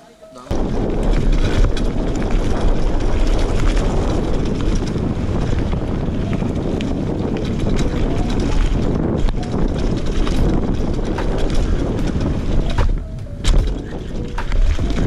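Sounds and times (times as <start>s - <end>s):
bike clicks and rattles: 0.5s - 15.0s
tyres rumbling on dirt: 0.5s - 15.0s
wind buffeting microphone: 0.5s - 15.0s.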